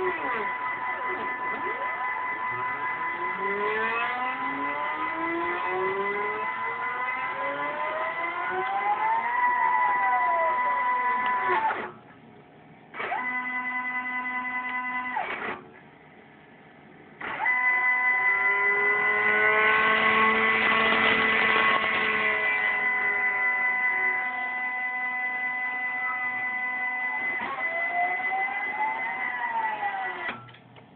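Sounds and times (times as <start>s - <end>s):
stepper motors whining: 0.0s - 12.0s, 17.2s - 30.6s.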